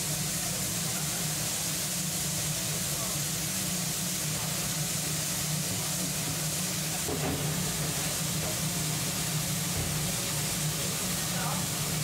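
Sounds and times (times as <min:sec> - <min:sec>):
gas burner hiss and hum: 0:00.0 - 0:12.0.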